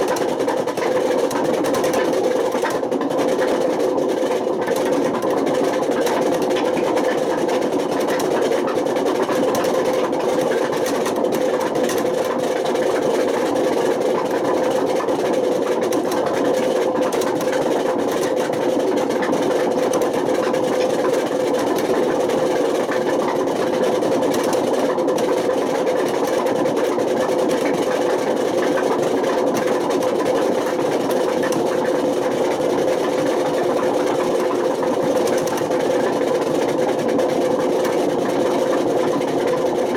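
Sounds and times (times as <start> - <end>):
washing machine grinding rumble: 0.0 - 39.9
washing machine whine: 0.0 - 39.9.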